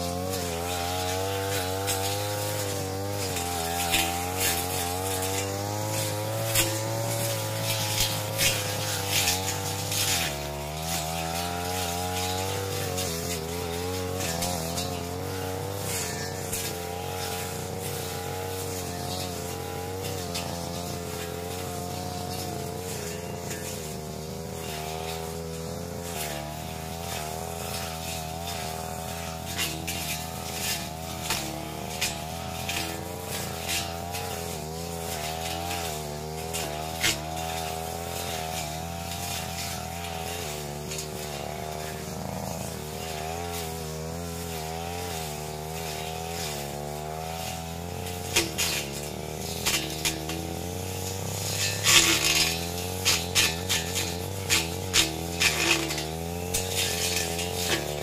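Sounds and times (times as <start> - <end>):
brush cutter engine at high revs: 0.0 - 58.0
stems being struck: 0.0 - 58.0.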